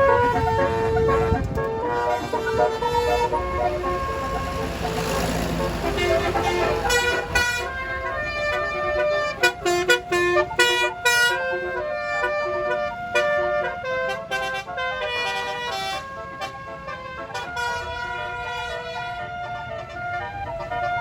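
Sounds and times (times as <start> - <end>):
musical air horn melody: 0.0 - 20.2.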